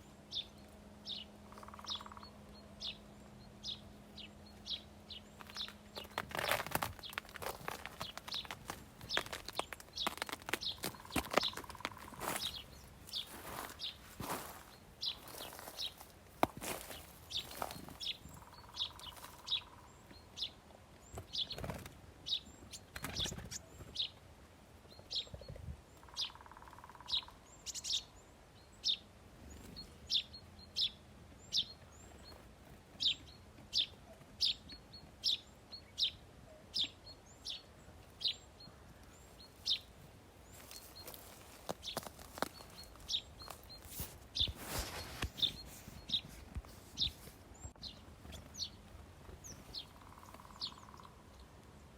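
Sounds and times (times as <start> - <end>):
small songbirds chirping: 0.0 - 51.9.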